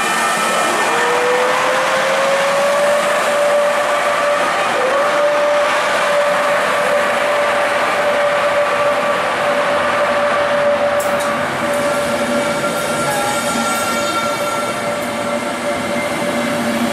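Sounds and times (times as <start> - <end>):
rumble of moving train: 0.0 - 16.9.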